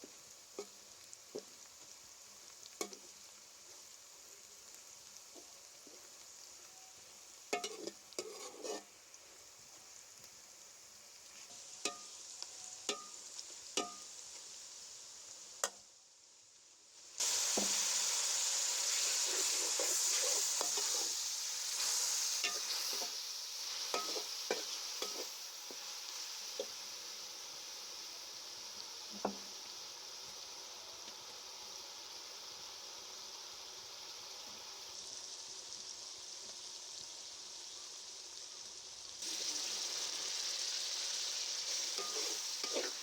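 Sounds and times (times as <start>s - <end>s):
vegetables sizzling in oil: 0.0s - 43.0s.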